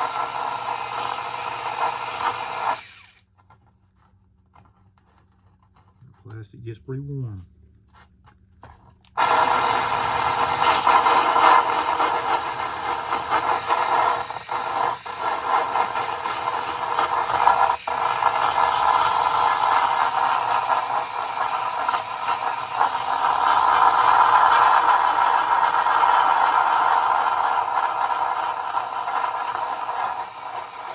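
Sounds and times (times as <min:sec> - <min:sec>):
electric sander grinding plastic: 0:00.0 - 0:03.2, 0:09.2 - 0:30.9.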